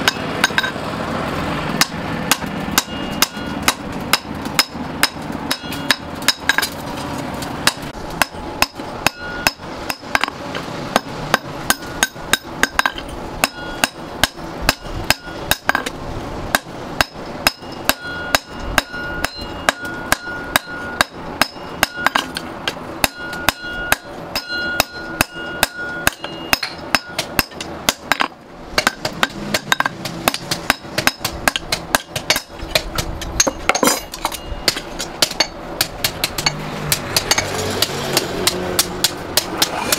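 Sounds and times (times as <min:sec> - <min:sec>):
hammer striking metal on anvil: 0:00.0 - 0:00.8, 0:01.8 - 0:06.8, 0:07.6 - 0:39.9
metal ringing: 0:00.0 - 0:00.8, 0:01.8 - 0:06.9, 0:07.6 - 0:39.9.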